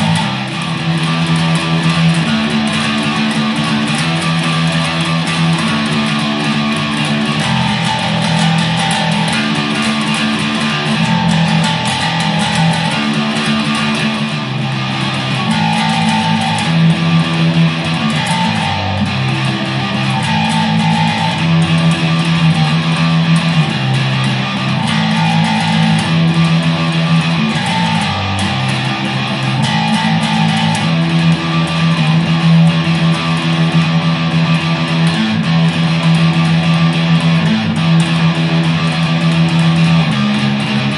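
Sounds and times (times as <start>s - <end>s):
distorted electric bass riff: 0.0s - 40.9s.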